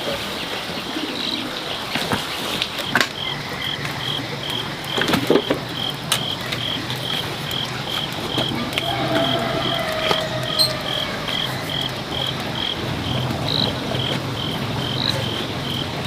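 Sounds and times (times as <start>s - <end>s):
cricket chirping: 2.8s - 16.0s.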